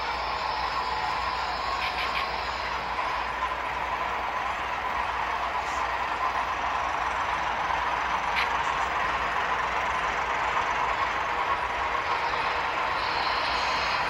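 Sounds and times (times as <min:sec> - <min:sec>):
model train whirring on track: 0:00.0 - 0:14.0.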